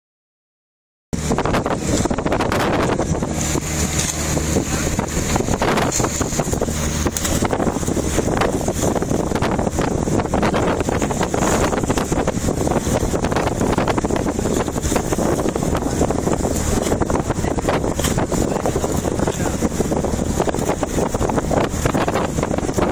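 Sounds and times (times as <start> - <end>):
boat engine humming: 1.2 - 22.9
wind buffeting microphone: 1.2 - 22.9.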